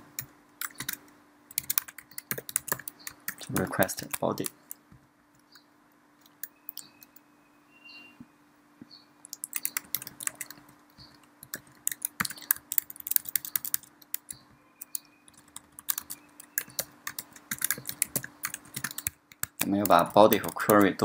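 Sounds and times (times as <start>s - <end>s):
faint steady hum: 0.0s - 21.0s
computer keyboard typing: 0.2s - 4.8s, 6.2s - 7.1s, 9.2s - 21.0s.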